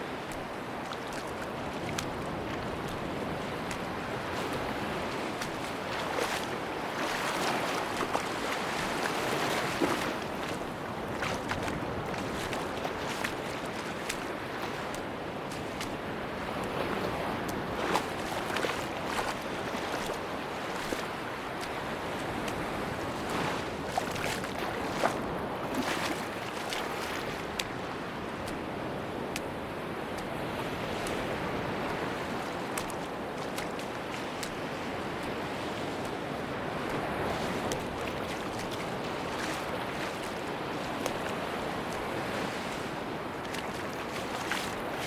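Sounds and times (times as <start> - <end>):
sea waves washing on beach: 0.0 - 45.0
wind: 0.0 - 45.0.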